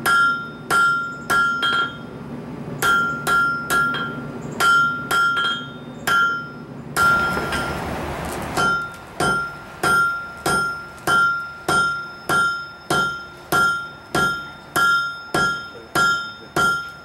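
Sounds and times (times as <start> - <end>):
anvil ringing: 0.0 - 2.1, 2.8 - 7.8, 8.6 - 17.0
hammer striking hot metal on anvil: 0.0 - 2.1, 2.8 - 7.8, 8.6 - 17.0.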